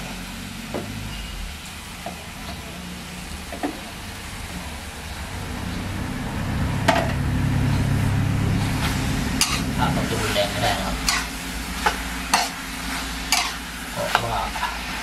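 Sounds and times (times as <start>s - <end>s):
low rumble: 0.0s - 14.0s
chicken sizzling in a wok: 0.0s - 15.0s.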